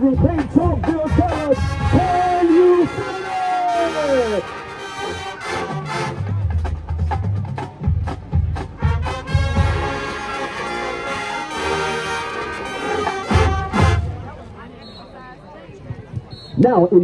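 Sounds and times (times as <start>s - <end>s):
marching band playing: 0.0s - 16.8s.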